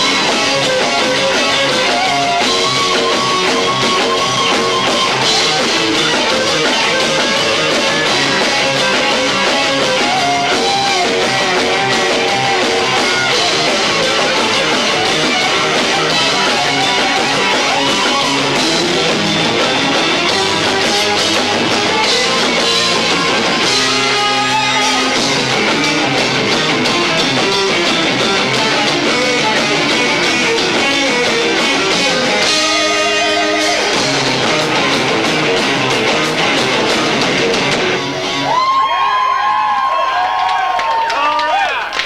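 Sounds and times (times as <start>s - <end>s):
distorted electric guitar: 0.0s - 39.2s
live rock band playing: 0.0s - 40.4s
drums: 0.0s - 42.0s.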